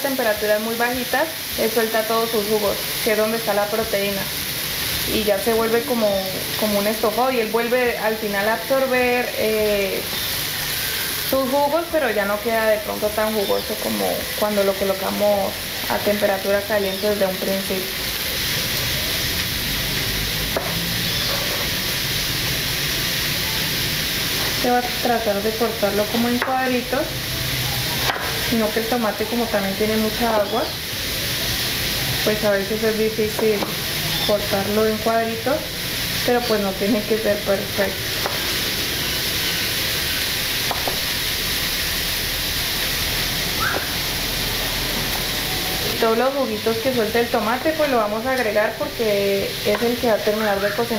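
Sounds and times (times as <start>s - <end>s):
chicken sizzling in a frying pan: 0.0s - 50.9s.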